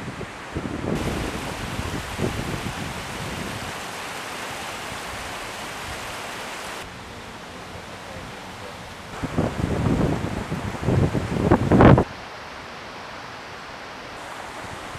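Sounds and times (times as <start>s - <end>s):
creek water rushing: 0.0s - 14.9s.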